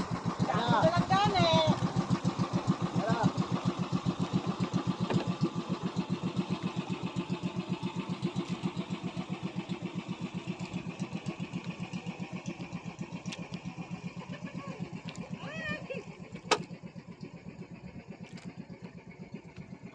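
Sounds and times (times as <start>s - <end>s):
boat engine chugging: 0.0s - 19.9s.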